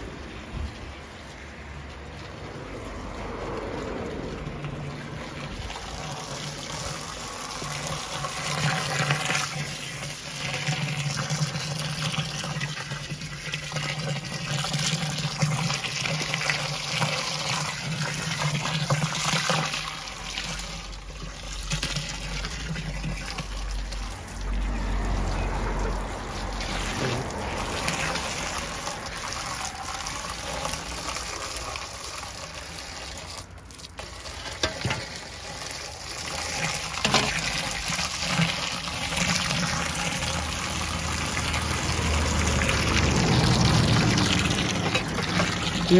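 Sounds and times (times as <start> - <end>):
hose water pouring into plastic drum: 0.0 - 45.9.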